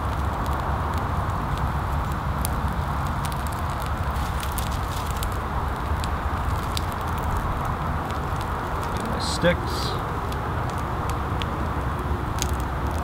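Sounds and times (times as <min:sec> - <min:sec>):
bark burning crackles and pops: 0:00.0 - 0:13.0
distant highway traffic rumble: 0:00.0 - 0:13.0.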